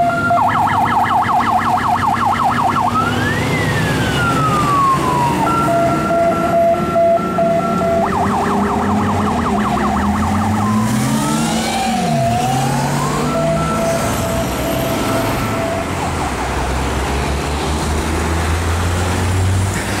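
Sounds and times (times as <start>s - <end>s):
fire engine siren: 0.0s - 17.2s
diesel truck engine: 0.0s - 20.0s.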